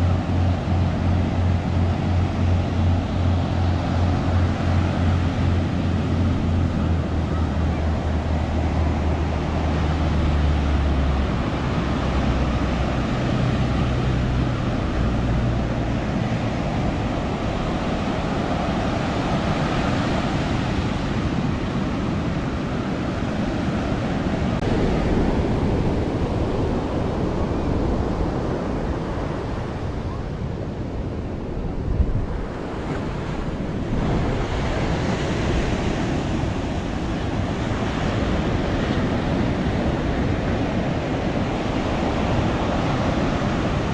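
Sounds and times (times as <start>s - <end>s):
ocean surf breaking: 0.0s - 43.9s
wind buffeting microphone: 0.0s - 43.9s.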